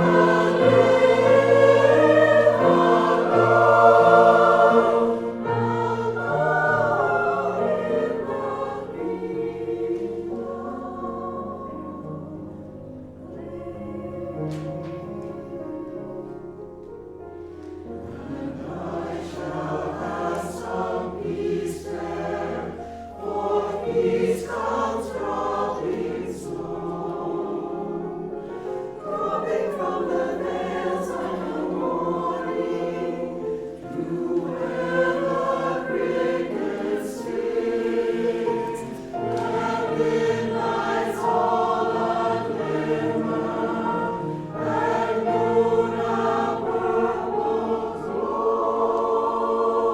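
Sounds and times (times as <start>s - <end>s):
mixed choir singing: 0.0s - 16.8s, 17.5s - 49.9s.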